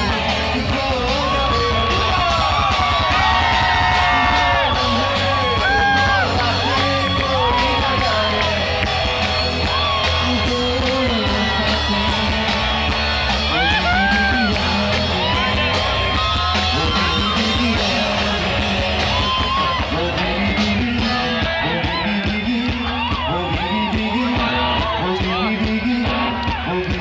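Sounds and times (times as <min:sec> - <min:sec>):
bass line: 0:00.0 - 0:27.0
guitars: 0:00.0 - 0:27.0
man singing: 0:00.0 - 0:27.0.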